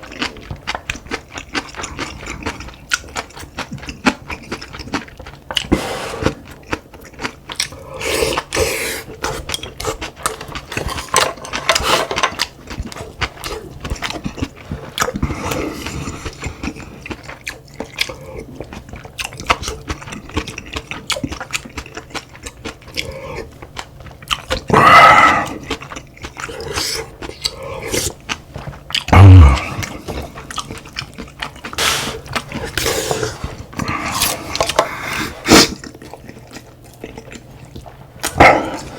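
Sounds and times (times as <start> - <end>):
chewing and mouth noises: 0.0 - 38.9.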